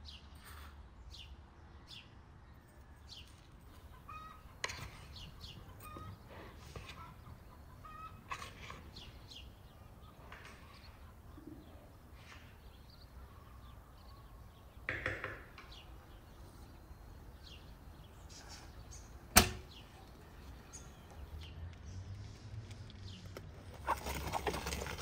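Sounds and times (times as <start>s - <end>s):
birds chirping: 1.0s - 25.0s.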